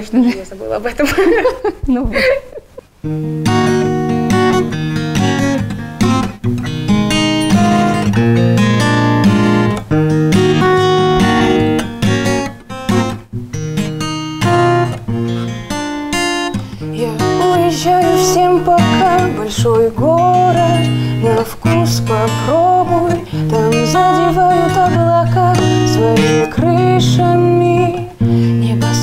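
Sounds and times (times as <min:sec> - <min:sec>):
acoustic guitar chords: 0:03.0 - 0:29.0.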